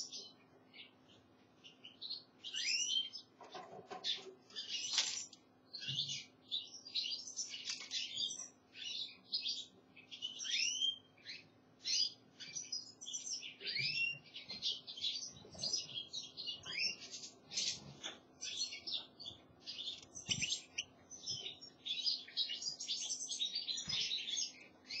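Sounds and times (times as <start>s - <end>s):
bird twittering song: 0.0s - 25.0s.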